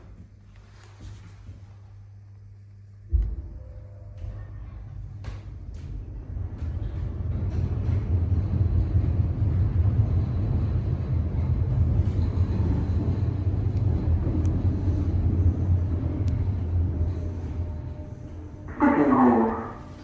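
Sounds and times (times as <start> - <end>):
lift car rumbling: 3.5 - 20.0.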